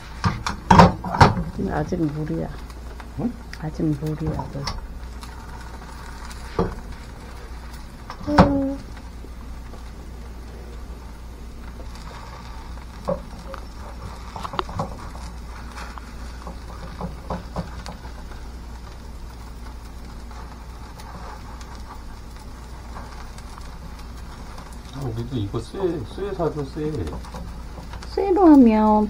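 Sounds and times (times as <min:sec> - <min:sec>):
batter frying in a pan: 0:00.0 - 0:29.0.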